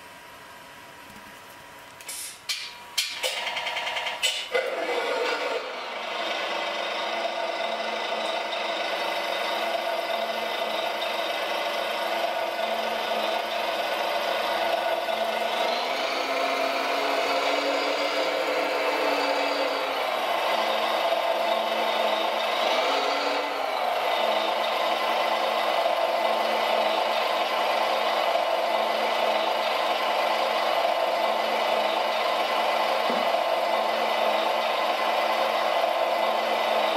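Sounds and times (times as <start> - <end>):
model loader whirring with rattle: 3.0 - 36.9.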